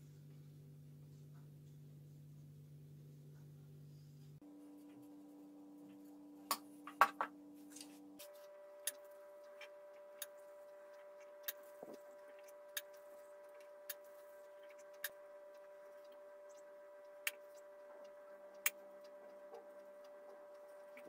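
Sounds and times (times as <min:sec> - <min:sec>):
faint steady held tones: 0:00.0 - 0:21.0.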